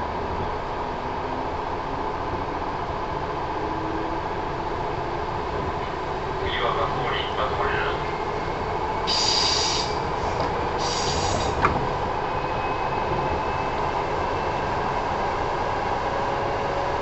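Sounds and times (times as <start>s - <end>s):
train rumbling in motion: 0.0s - 17.0s.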